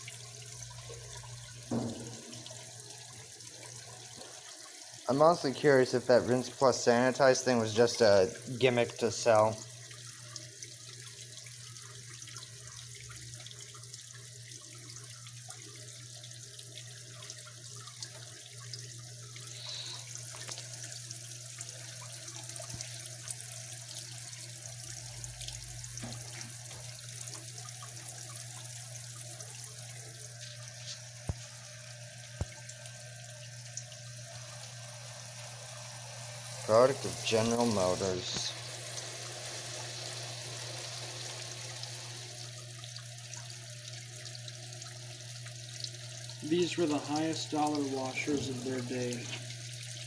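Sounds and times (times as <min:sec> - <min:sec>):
washing machine hum: 0:00.0 - 0:50.0.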